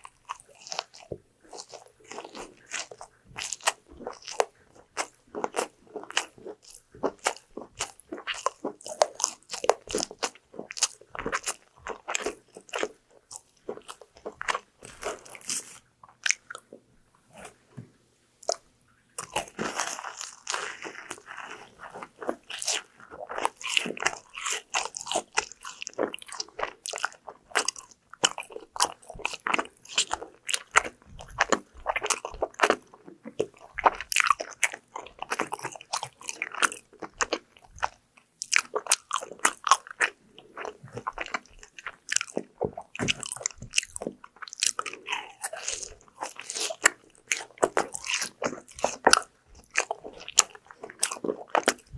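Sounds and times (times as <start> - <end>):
crunchy chewing of fried food: 0.0 - 51.9.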